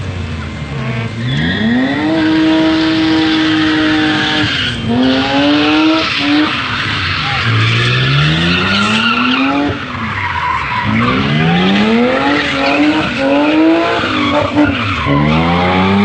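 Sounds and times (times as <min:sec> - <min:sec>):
car engine revving hard: 0:00.0 - 0:16.0
tyres squealing and skidding: 0:00.8 - 0:16.0.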